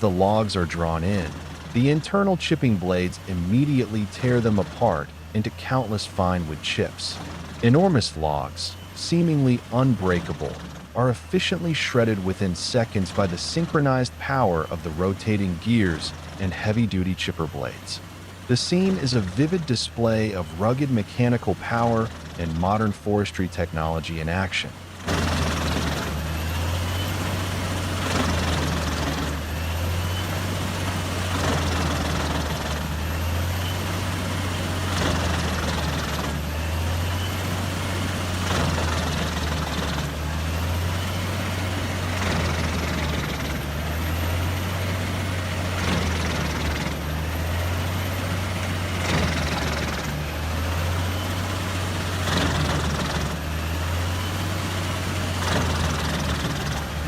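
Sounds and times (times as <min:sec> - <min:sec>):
wood chipper diesel engine: 0:00.0 - 0:57.0.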